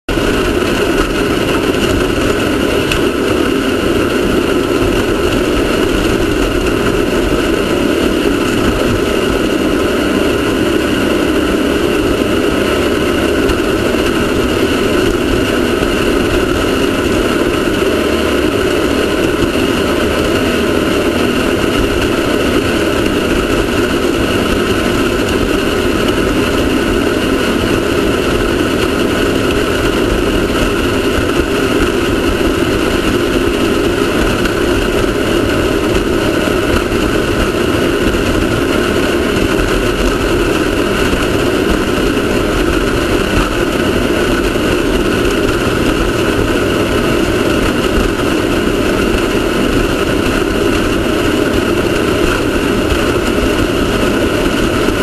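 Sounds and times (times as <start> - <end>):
race car engine droning: 0.0 - 55.0.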